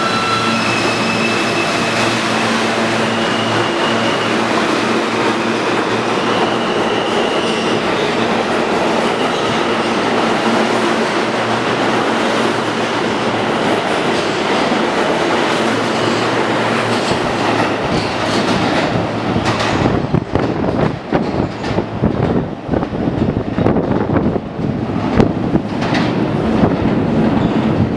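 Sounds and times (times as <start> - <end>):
subway train rumble and hiss: 0.0 - 27.9.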